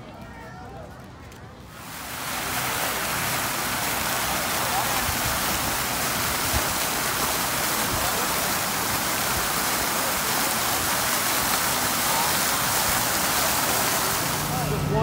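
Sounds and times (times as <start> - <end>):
fountain jets splashing into pool: 0.0 - 15.0.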